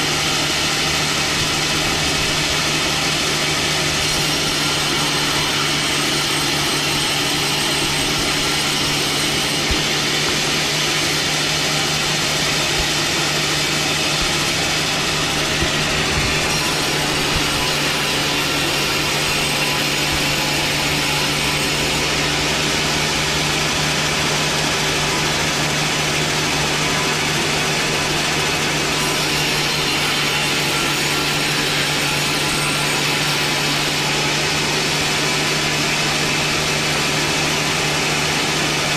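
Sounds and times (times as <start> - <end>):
power saw cutting wood: 0.0 - 38.9.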